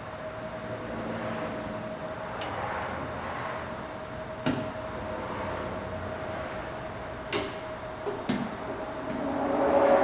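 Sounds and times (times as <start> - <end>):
workshop hum: 0.0 - 10.0.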